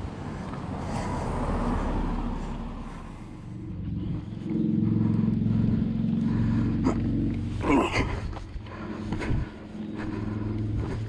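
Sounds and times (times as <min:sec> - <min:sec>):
low droning hum: 0:00.0 - 0:11.0
vehicle passing on road: 0:00.0 - 0:11.0.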